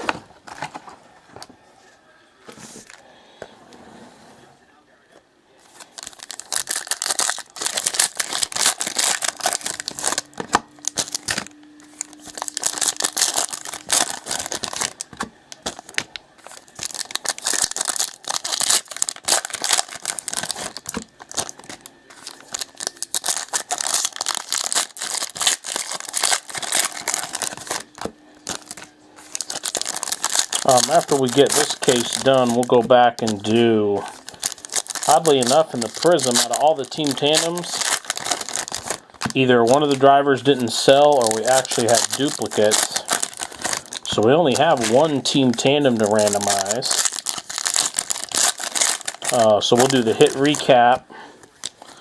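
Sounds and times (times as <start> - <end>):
plastic and foil wrapping crinkling: 0.0 - 1.5, 5.6 - 52.0.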